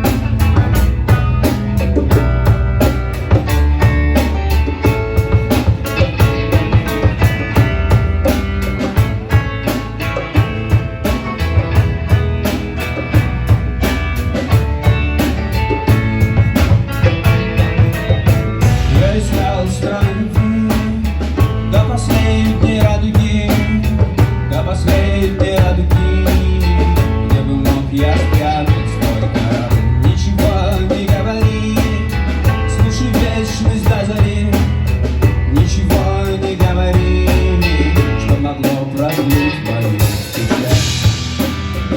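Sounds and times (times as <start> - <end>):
bass guitar: 0.0 - 41.9
drum kit beat: 0.0 - 41.9
electric guitars: 0.0 - 41.9.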